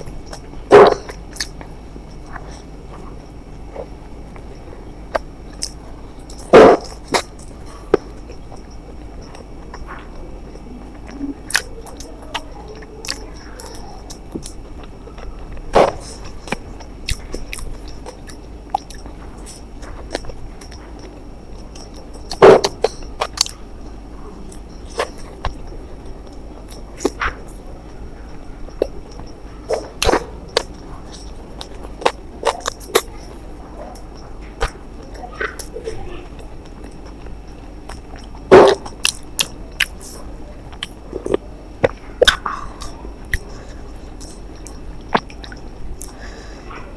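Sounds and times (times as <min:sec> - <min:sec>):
chewing and mouth noises: 0:00.0 - 0:46.9
faint high-pitched whine: 0:00.0 - 0:46.9.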